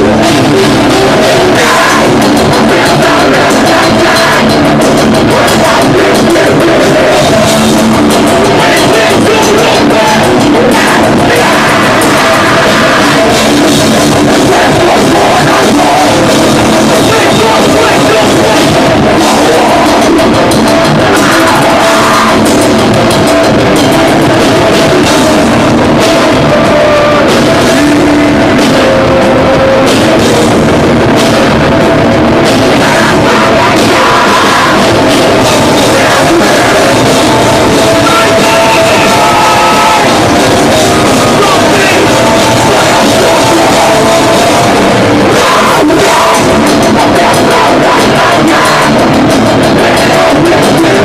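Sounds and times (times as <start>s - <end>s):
bass guitar: 0.0s - 51.0s
distorted electric guitars: 0.0s - 51.0s
pounding drum kit: 0.0s - 51.0s
vocals: 0.0s - 51.0s.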